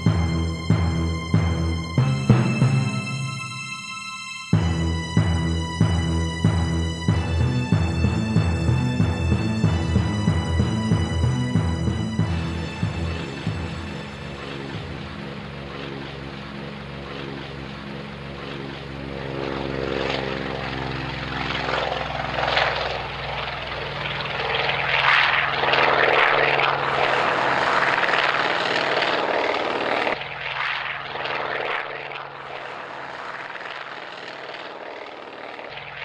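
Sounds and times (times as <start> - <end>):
propeller aircraft engines droning: 0.0 - 36.0.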